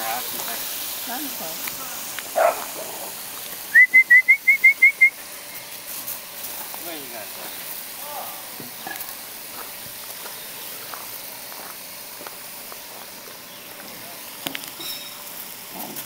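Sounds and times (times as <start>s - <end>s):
dog paws crunching on gravel: 0.0s - 3.7s, 5.5s - 7.9s, 8.8s - 16.0s
steady outdoor hiss: 0.0s - 16.0s.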